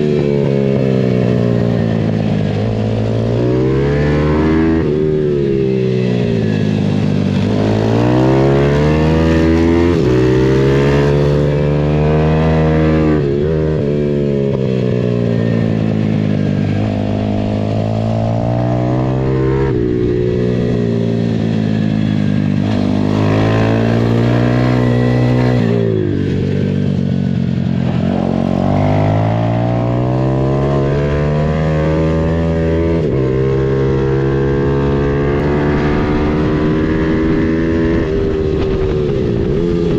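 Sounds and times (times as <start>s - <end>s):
dirt bike engine accelerating: 0.0s - 39.9s.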